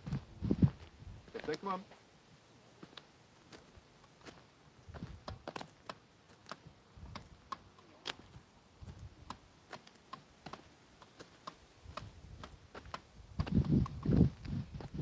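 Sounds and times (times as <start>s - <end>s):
footsteps on gritty dirt path: 0.0s - 2.1s, 2.8s - 15.0s.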